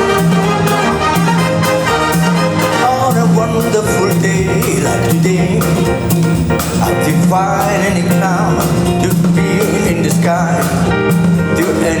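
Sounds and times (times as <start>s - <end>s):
big band music: 0.0s - 12.0s.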